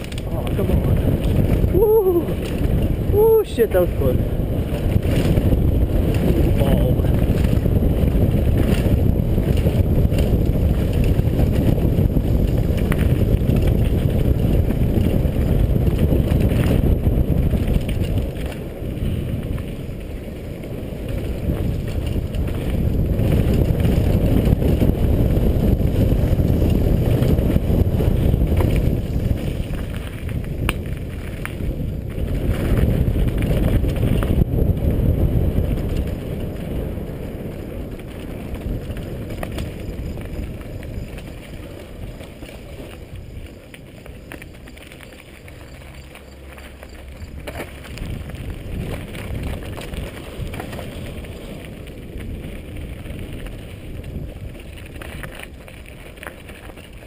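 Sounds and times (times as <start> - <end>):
bike rattling: 0.0 - 57.0
wind buffeting microphone: 0.0 - 57.0
tyres crunching over dirt and rock: 4.6 - 57.0.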